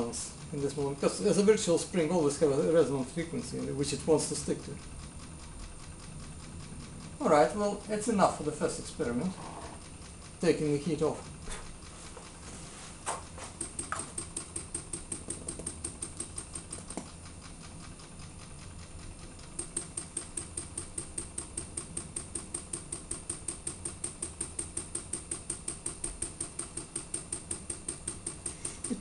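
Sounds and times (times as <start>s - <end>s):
engine mechanism clicking: 0.0s - 29.0s.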